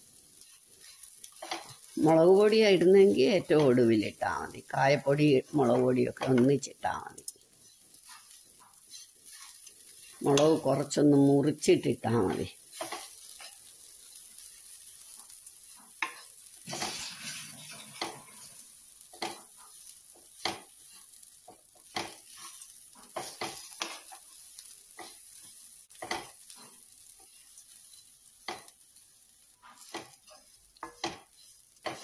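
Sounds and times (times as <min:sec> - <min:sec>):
light sizzle: 0:00.0 - 0:32.0
wooden spatula scraping a pan: 0:00.1 - 0:06.6, 0:07.2 - 0:11.4, 0:12.0 - 0:32.0.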